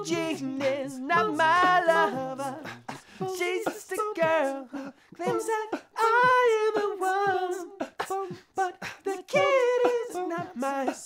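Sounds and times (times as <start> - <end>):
beatboxed drum hits: 0.0 - 11.0
man's layered singing voices: 0.0 - 11.0.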